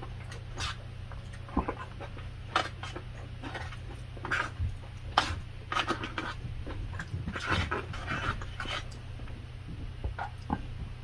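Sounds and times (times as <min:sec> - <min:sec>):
wet chewing sounds: 0:00.0 - 0:10.8.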